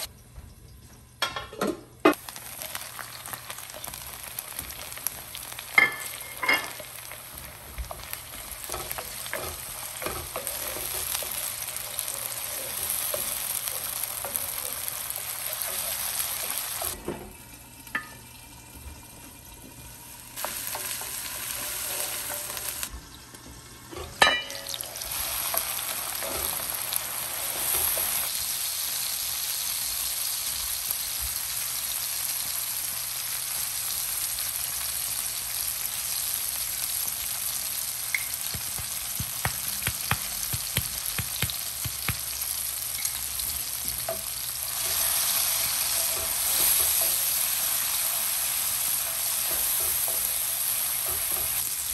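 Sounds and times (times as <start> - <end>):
vegetables sizzling in oil: 2.1 - 51.9.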